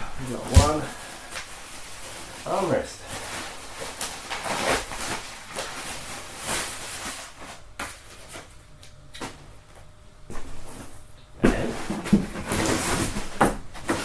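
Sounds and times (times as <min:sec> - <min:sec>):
packaging rustling and scraping: 0:00.2 - 0:14.0.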